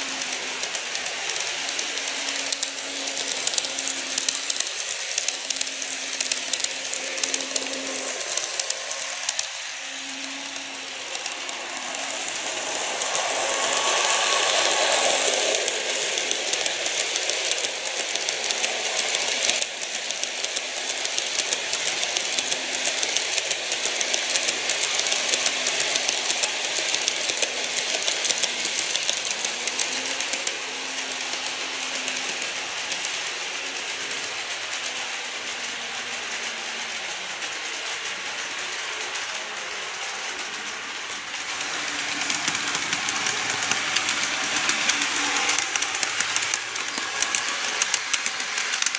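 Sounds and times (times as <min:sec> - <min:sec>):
small motor hum: 0:00.0 - 0:36.4, 0:40.8 - 0:48.9
model train wheels clicking: 0:00.0 - 0:48.9.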